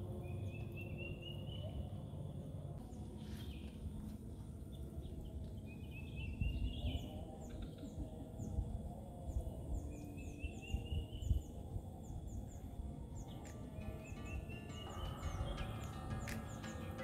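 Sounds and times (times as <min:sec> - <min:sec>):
high insect-like whine: 0:00.0 - 0:17.0
birds whistling and chirping: 0:00.1 - 0:02.4, 0:04.7 - 0:17.0.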